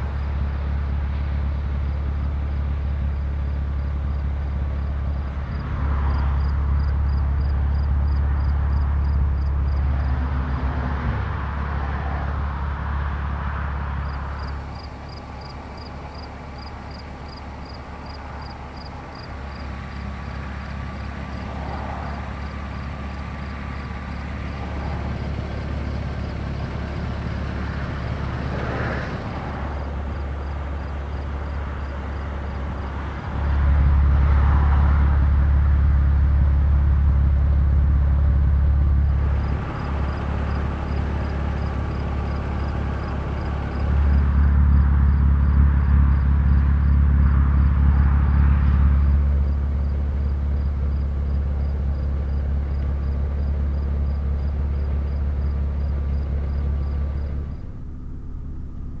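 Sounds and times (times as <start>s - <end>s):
car engine idling: 0.0s - 10.8s, 11.4s - 59.0s.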